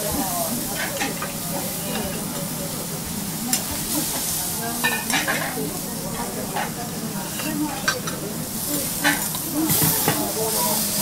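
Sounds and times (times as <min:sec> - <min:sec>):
steak sizzling on a griddle: 0:00.0 - 0:11.0.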